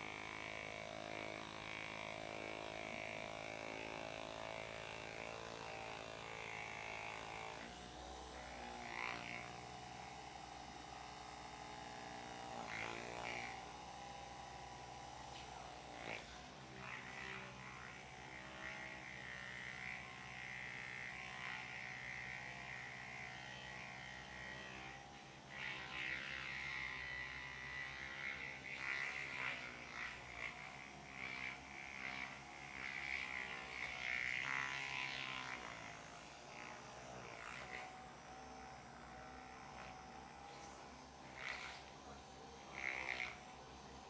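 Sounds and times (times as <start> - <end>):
electric massager buzzing: 0.0 - 44.0.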